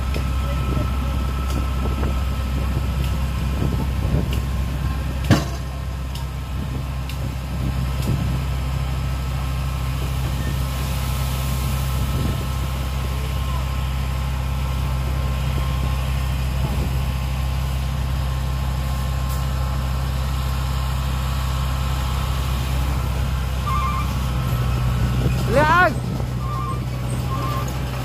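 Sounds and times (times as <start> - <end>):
heavy machine engine running: 0.0 - 28.0.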